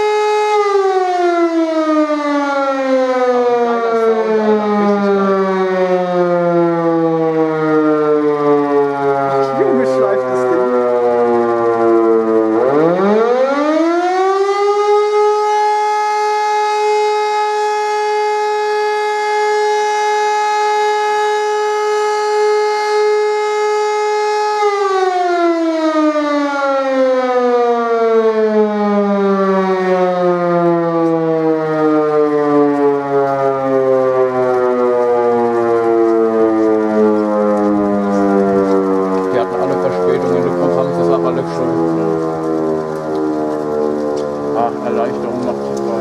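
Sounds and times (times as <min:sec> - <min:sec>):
civil defence siren: 0:00.0 - 0:46.0.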